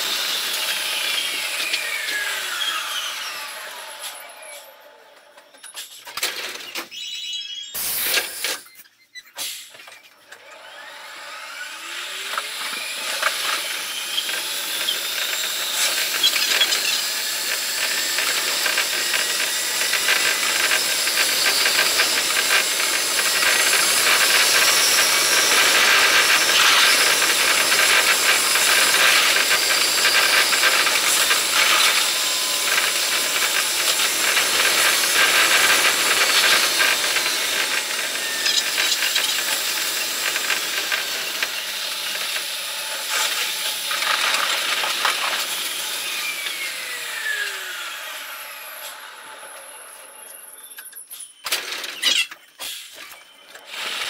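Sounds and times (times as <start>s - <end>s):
electric train motor whine: 0.0s - 5.8s, 10.3s - 51.8s.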